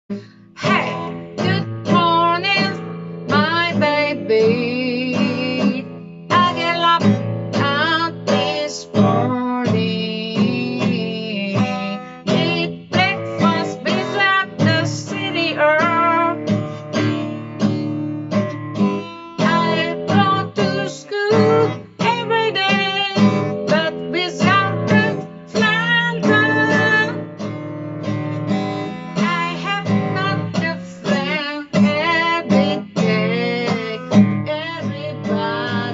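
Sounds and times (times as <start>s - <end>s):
person singing: 0.1s - 18.5s, 19.3s - 27.5s, 28.3s - 35.9s
strummed acoustic guitar: 0.1s - 35.9s.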